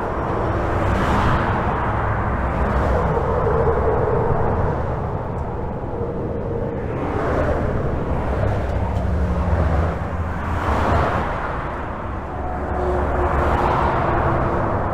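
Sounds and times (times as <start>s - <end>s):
highway traffic rushing: 0.0s - 14.9s
vehicles passing overhead: 0.0s - 14.9s.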